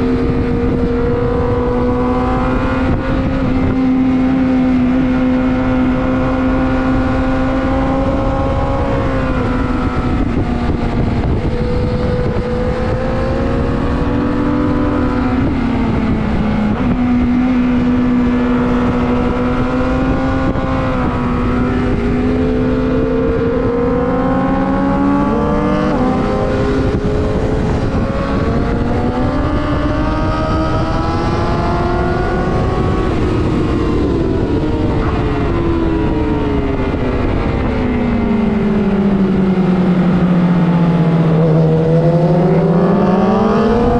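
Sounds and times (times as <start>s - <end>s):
motorcycle engine running hard: 0.0s - 43.9s
wind noise: 0.0s - 43.9s.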